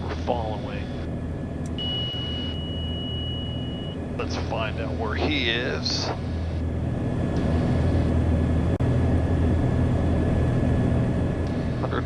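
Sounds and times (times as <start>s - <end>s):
aircraft engines and propellers droning: 0.0s - 12.0s.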